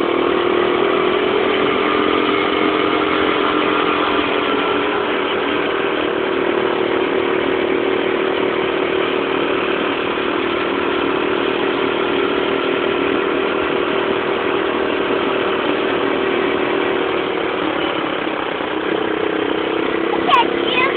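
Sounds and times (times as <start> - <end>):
mini motorcycle engine running: 0.0 - 20.9.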